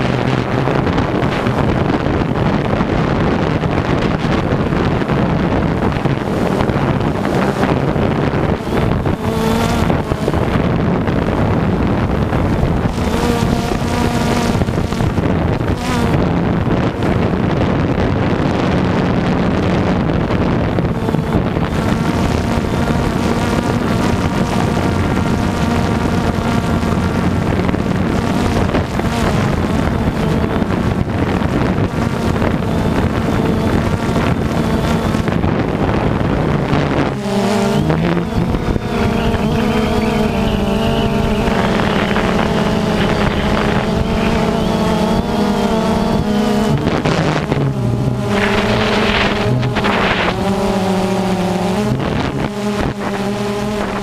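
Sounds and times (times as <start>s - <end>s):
drone propellers whirring: 0.0s - 54.0s
wind on microphone: 0.0s - 54.0s.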